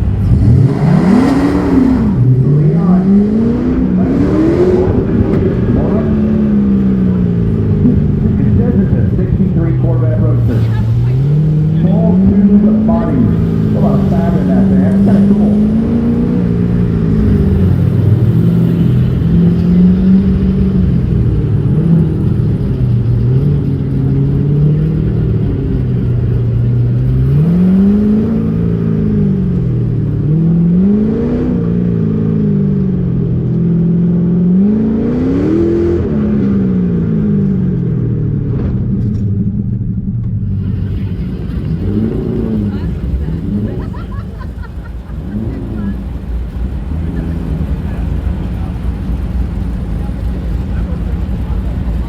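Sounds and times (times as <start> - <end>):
car engine accelerating and easing: 0.0 - 52.0.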